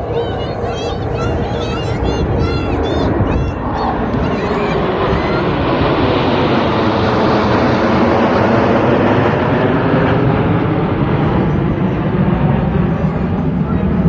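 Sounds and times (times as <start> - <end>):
jet aircraft flying overhead: 0.0 - 14.0.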